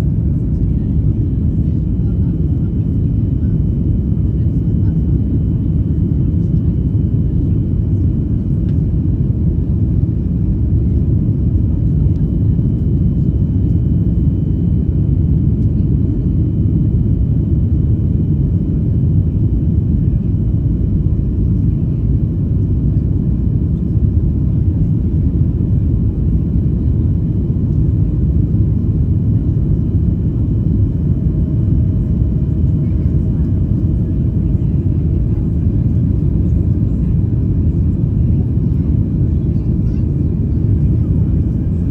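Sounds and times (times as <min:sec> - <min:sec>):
aircraft cabin engine rumble: 0:00.0 - 0:41.9.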